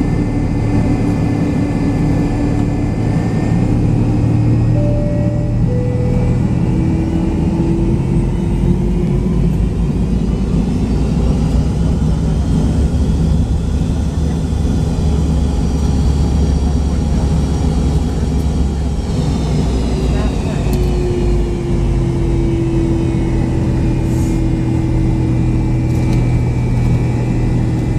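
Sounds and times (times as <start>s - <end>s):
jet engine rumble in cabin: 0.0s - 27.9s.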